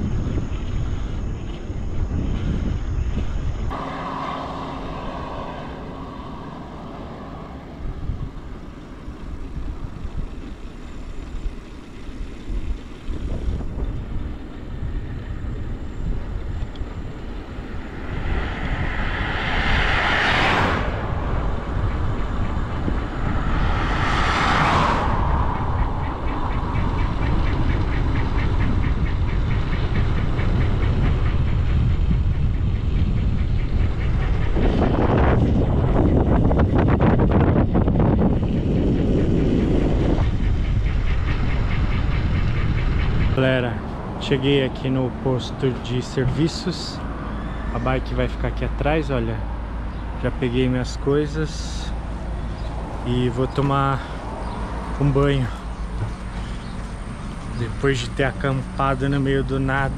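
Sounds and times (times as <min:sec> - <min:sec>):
vehicles passing close: 0:00.0 - 0:59.9
wind rumbling on microphone: 0:00.0 - 0:59.9.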